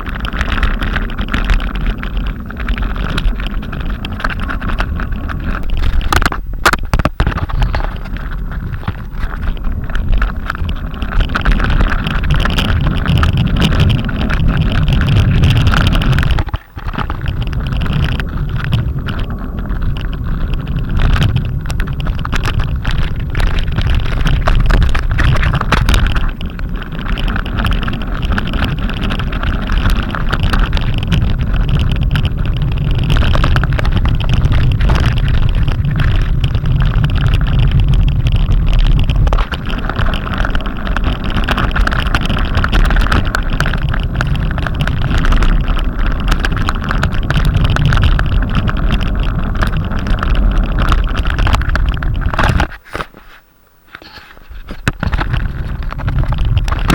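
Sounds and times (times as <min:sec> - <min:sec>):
wind buffeting microphone: 0:00.0 - 0:53.2, 0:53.9 - 0:56.9.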